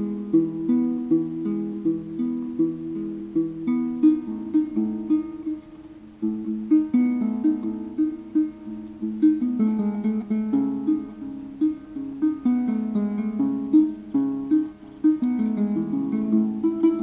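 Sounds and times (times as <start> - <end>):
plucked harp-lute melody: 0.0 - 17.0.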